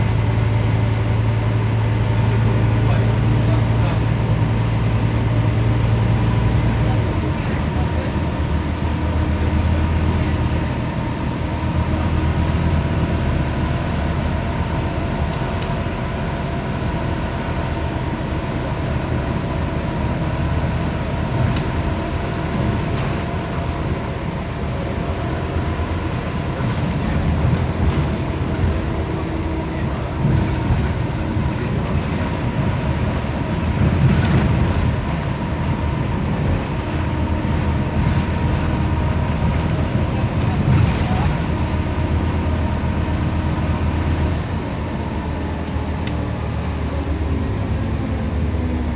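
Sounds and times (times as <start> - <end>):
bus engine rumbling: 0.0 - 48.9.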